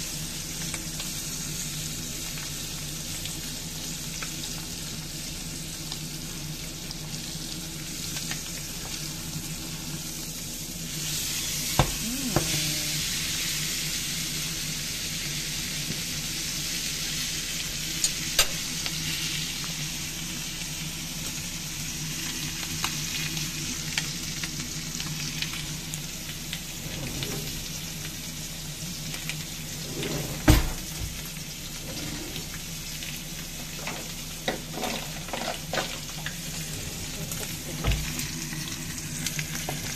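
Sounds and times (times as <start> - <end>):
steak sizzling in a pan: 0.0 - 29.8, 30.8 - 39.9.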